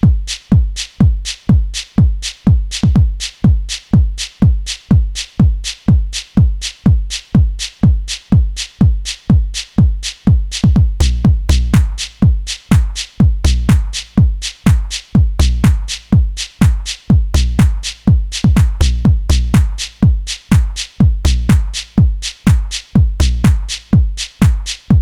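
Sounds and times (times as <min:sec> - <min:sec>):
house music: 0:00.0 - 0:25.0
kick drum with bass thud: 0:00.0 - 0:25.0.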